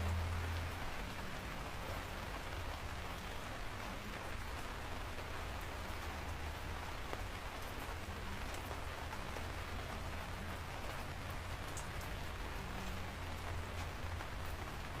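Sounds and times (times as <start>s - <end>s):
raindrops ticking: 0.0s - 15.0s
steady rain hiss: 0.0s - 15.0s.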